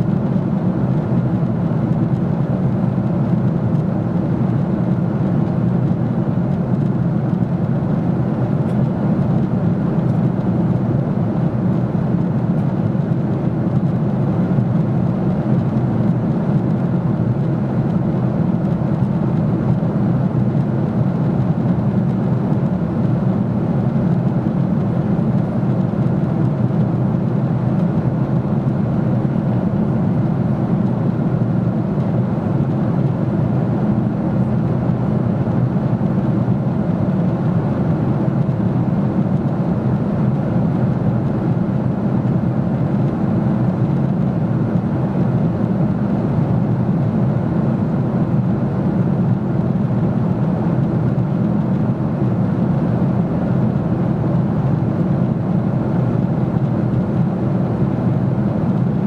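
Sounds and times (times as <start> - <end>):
airliner cabin engine drone: 0.0 - 59.0.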